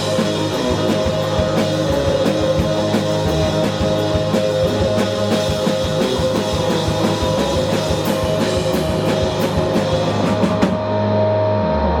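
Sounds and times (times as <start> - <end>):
drums and cymbals: 0.0 - 11.2
indie rock band playing live: 0.0 - 11.7.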